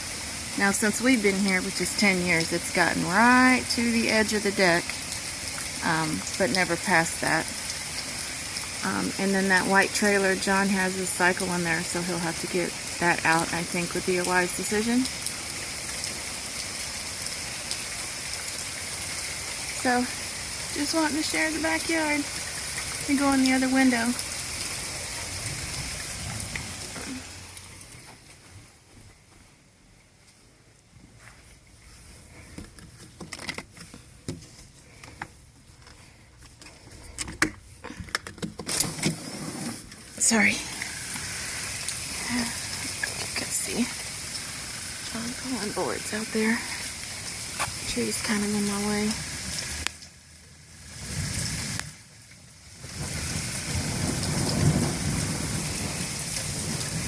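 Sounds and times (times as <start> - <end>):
heavy rain: 0.0 - 28.5, 37.9 - 57.0
faint steady background noise: 0.0 - 53.0.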